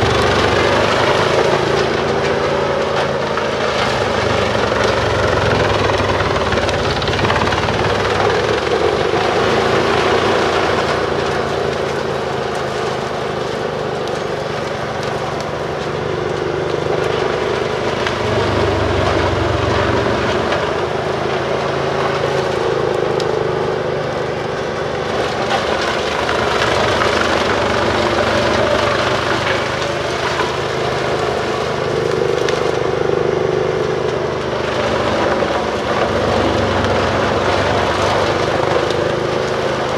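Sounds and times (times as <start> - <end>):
heavy engine drone: 0.0 - 39.9
wood chipper chipping: 0.0 - 39.9.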